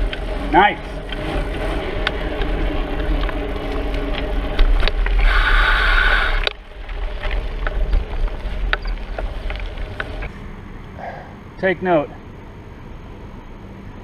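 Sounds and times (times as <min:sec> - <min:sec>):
hissy rush: 0:00.0 - 0:11.5
bicycle tyre rumble: 0:00.0 - 0:11.6.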